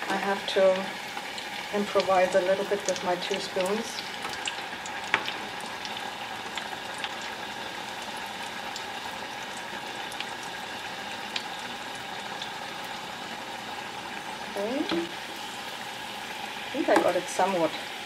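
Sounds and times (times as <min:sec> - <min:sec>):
oil bubbling and sizzling: 0:00.0 - 0:18.0.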